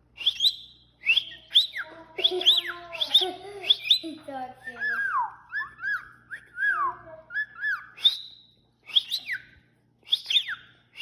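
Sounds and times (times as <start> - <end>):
cockatiel whistling: 0.2 - 4.0, 4.7 - 11.0.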